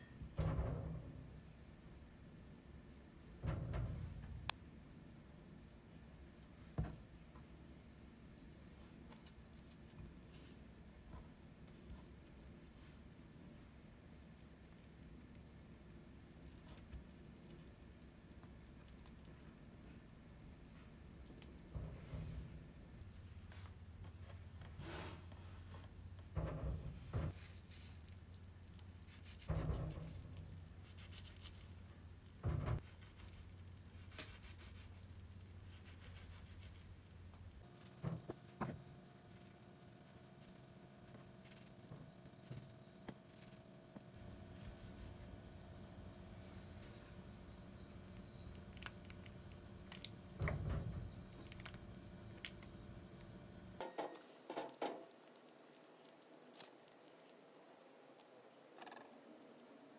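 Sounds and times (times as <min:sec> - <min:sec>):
low steady hum: 0:00.0 - 0:54.4.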